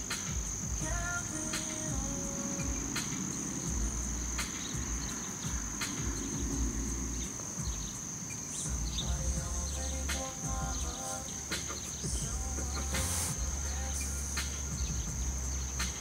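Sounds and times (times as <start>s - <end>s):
crickets chirring: 0.0s - 16.0s
low rumbling microphone noise: 0.0s - 16.0s.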